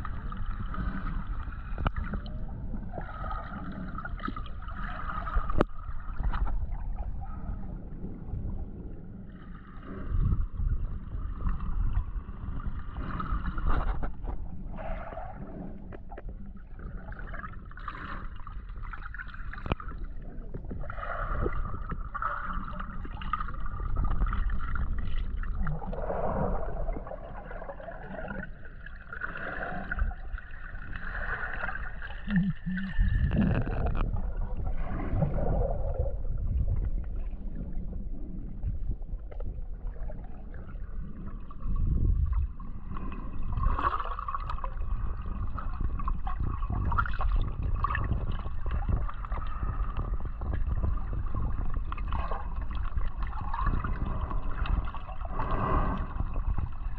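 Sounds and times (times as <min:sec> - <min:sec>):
muffled underwater water rumble: 0:00.0 - 0:56.9.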